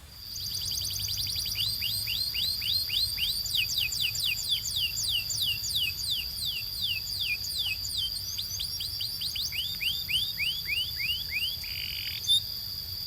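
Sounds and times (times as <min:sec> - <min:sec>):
canary singing: 0:00.4 - 0:12.3.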